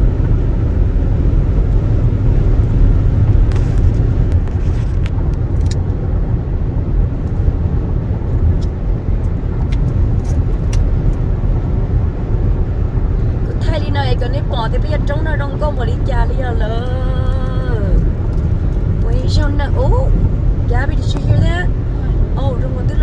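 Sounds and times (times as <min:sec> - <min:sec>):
tyre and engine rumble: 0:00.0 - 0:23.0.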